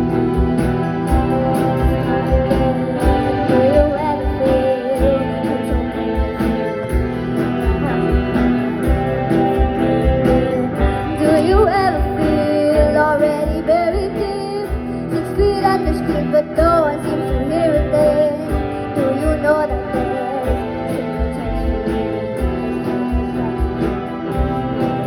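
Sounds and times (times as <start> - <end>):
girl singing lead: 0.0 - 25.0
guitars and keyboards: 0.0 - 25.0.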